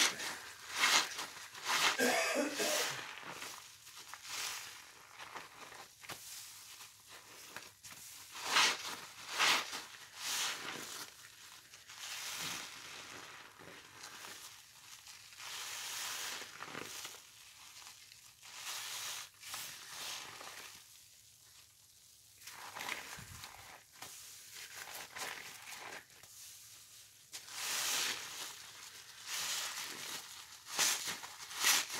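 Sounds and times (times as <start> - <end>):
wet sponges being squeezed: 0.0 - 31.9.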